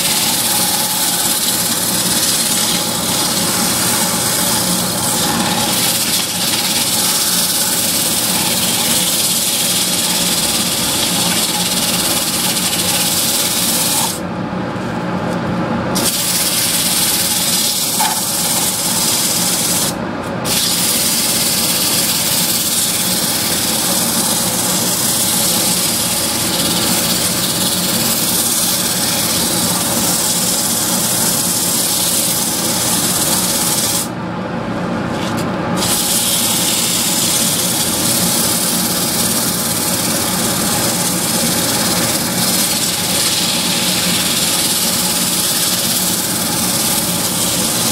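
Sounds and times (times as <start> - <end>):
lathe hissing: 0.0 - 14.2, 16.0 - 34.1, 35.8 - 47.9.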